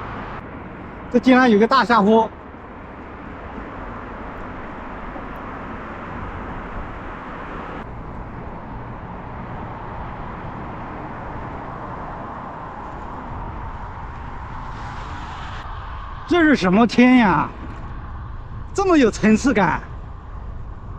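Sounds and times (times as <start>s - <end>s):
bicycle road noise: 0.0s - 20.9s
wind rushing: 2.3s - 20.9s.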